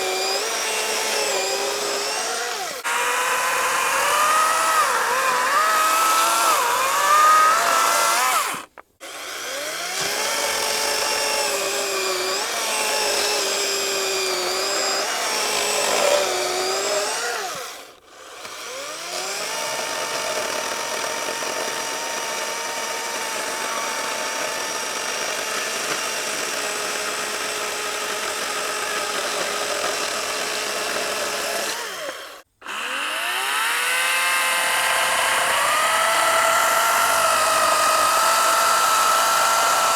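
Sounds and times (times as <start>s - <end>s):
electric chainsaw cutting log: 0.0s - 39.9s.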